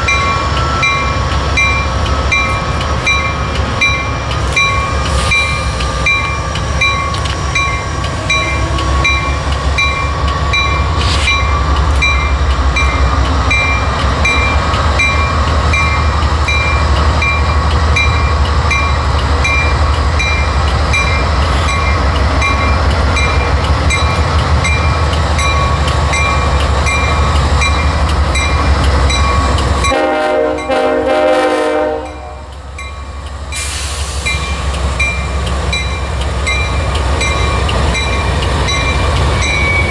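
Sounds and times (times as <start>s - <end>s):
locomotive bell ringing: 0.0s - 31.0s, 32.0s - 39.9s
diesel locomotive engine rumble: 0.0s - 39.9s.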